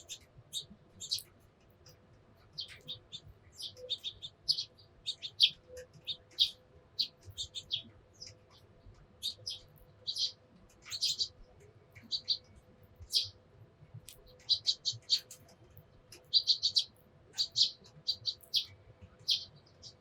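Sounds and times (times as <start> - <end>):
sparrows chirping: 0.0 - 13.4, 14.1 - 20.0.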